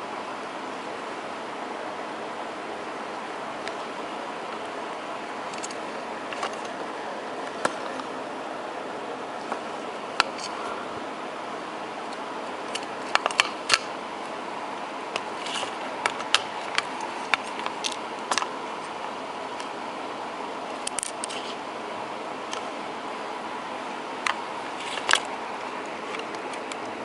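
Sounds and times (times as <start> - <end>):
steady whirring hiss: 0.0 - 27.0.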